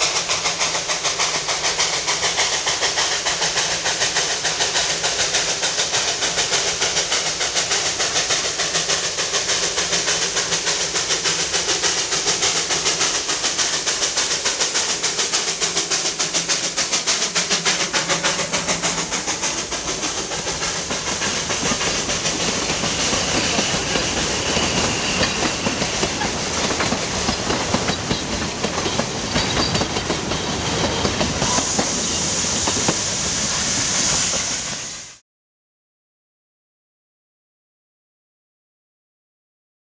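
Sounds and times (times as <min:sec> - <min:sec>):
carriages clacking over rail joints: 0:00.0 - 0:34.4
steam locomotive exhaust beat: 0:00.0 - 0:35.2.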